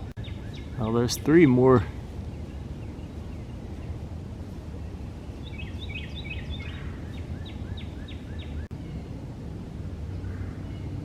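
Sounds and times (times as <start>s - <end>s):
low outdoor rumble: 0.0s - 11.0s
songbird singing: 0.0s - 11.0s.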